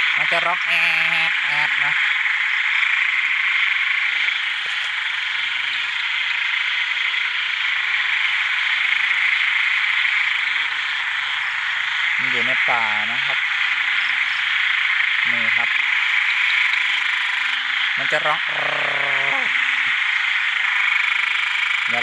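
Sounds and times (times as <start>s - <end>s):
frog short low calls: 0.0s - 22.0s
high-pitched frog chorus: 0.0s - 22.0s.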